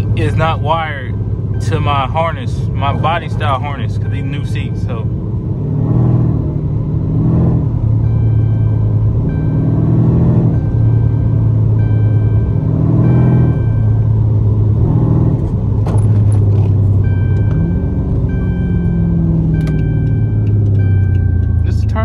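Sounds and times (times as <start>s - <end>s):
dashboard warning chime: 0.0s - 5.3s, 7.8s - 14.9s, 16.0s - 22.0s
car engine from inside cabin: 0.0s - 22.0s.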